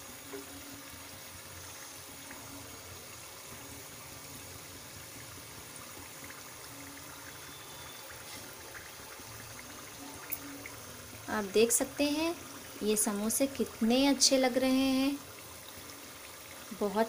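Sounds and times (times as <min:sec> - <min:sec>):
oil sizzling and bubbling: 0:00.0 - 0:17.0.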